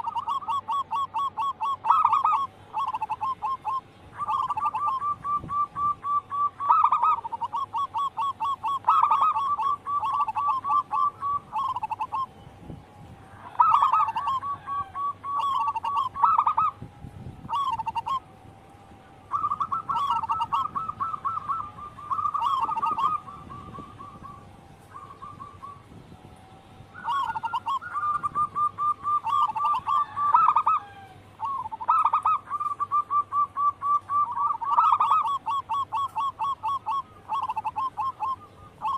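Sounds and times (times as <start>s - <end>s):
dove cooing: 0.0s - 16.8s, 17.4s - 38.9s.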